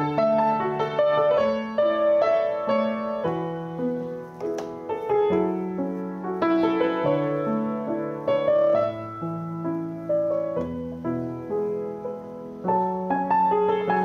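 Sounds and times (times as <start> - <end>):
solo grand piano: 0.0 - 14.0.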